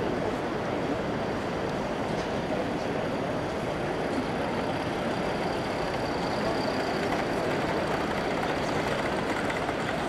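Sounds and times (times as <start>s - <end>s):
crowd hubbub: 0.0s - 10.0s
general hall noise: 0.0s - 10.0s.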